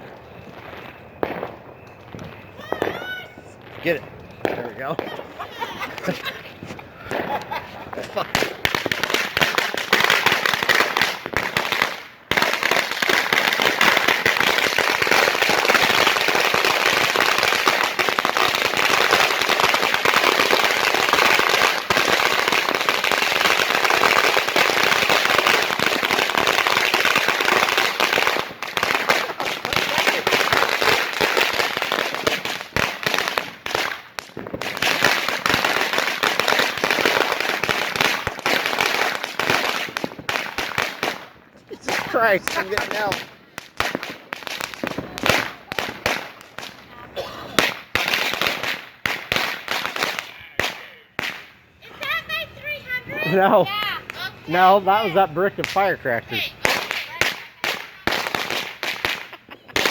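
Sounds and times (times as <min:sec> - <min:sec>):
firecrackers popping: 0:00.0 - 0:59.9.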